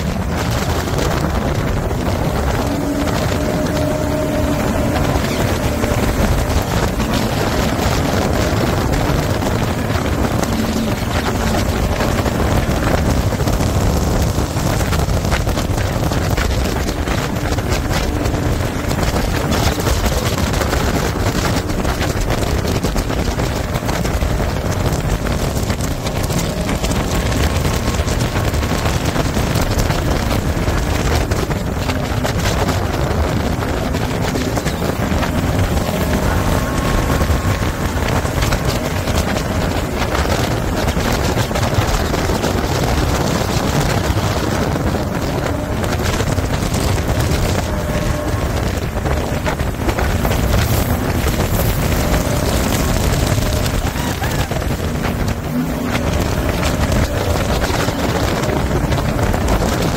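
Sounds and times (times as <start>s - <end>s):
jet boat engine: 0.0s - 59.9s
wind buffeting microphone: 0.0s - 59.9s.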